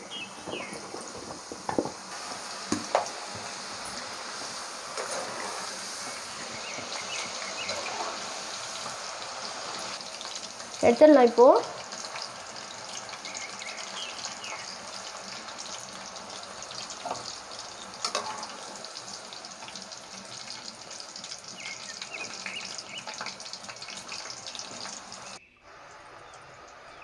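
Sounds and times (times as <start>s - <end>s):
potatoes frying in hot oil: 0.0s - 27.0s.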